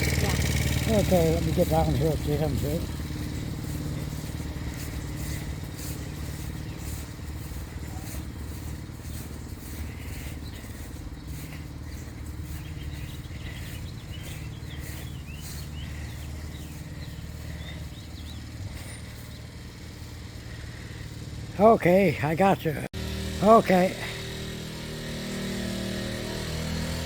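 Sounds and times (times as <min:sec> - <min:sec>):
birds chirping: 0:00.0 - 0:27.0
motorbike engine idling: 0:00.0 - 0:27.0.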